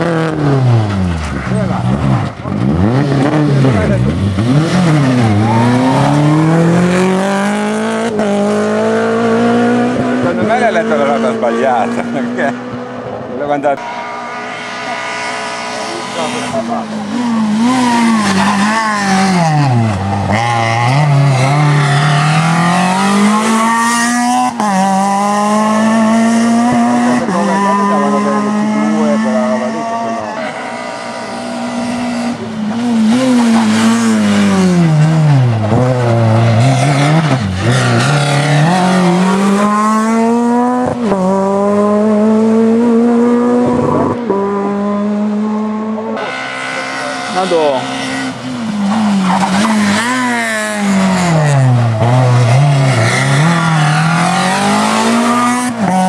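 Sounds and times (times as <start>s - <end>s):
car braking and downshifting: 0.0s - 56.0s
rally car engine revving: 0.0s - 56.0s.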